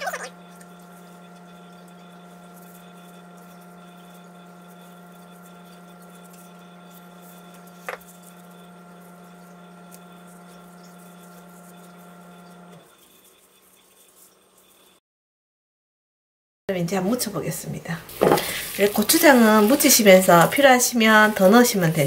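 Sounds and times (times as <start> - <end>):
low electrical hum: 0.0 - 12.8, 16.7 - 22.0.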